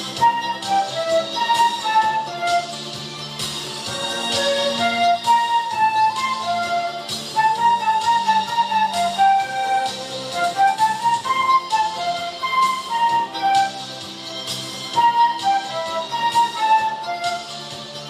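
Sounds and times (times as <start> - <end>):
flute ensemble playing: 0.0 - 3.1, 3.8 - 18.0.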